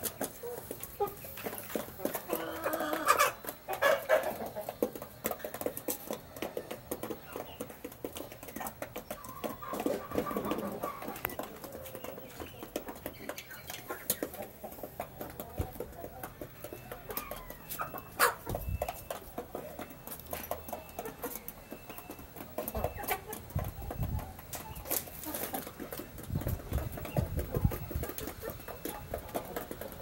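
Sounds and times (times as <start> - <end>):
chickens clucking: 0.0 - 30.0
beaks tapping on concrete: 4.4 - 30.0.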